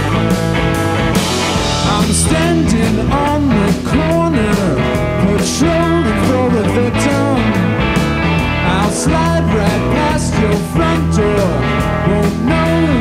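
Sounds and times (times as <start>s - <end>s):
lead guitar bending notes: 0.0s - 12.5s
blues-rock band playing: 0.0s - 13.0s.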